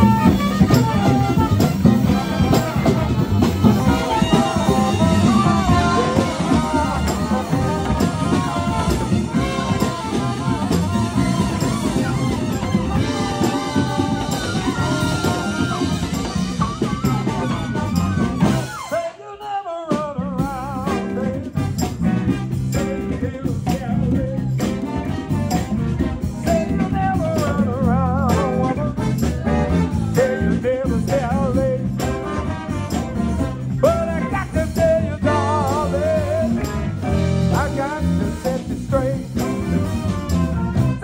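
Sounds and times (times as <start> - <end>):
electric guitar: 0.0 - 19.0, 20.4 - 41.0
saxophone: 0.0 - 19.6, 20.4 - 41.0
congas: 0.0 - 41.0
live band playing: 0.0 - 41.0
person singing: 2.1 - 21.8, 26.4 - 32.6, 33.8 - 41.0.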